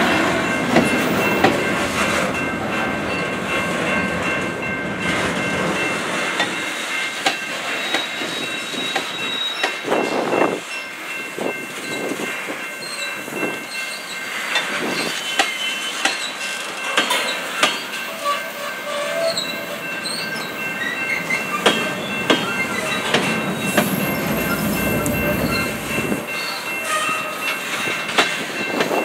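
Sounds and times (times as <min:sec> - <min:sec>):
railroad crossing bell ringing: 0:00.0 - 0:29.0
wheels click-clacking over rail joint: 0:00.0 - 0:29.0.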